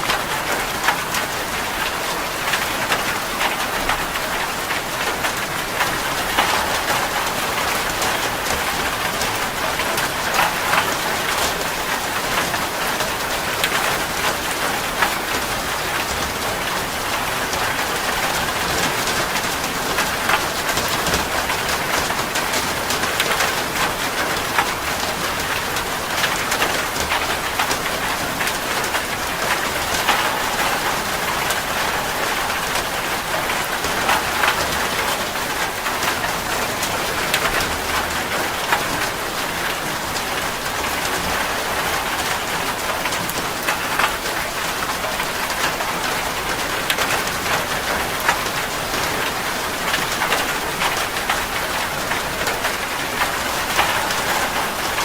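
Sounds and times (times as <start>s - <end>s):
heavy rain on a metal roof: 0.0s - 55.0s.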